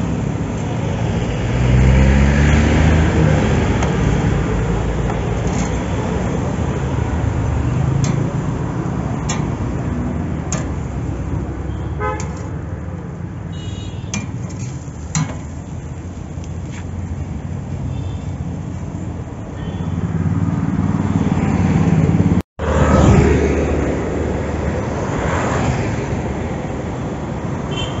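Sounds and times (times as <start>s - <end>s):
rumble of passing vehicles: 0.0s - 28.0s.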